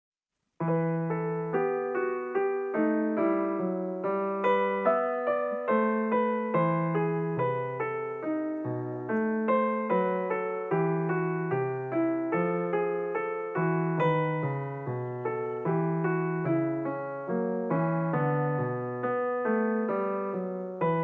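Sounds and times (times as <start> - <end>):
solo piano notes: 0.6 - 21.0.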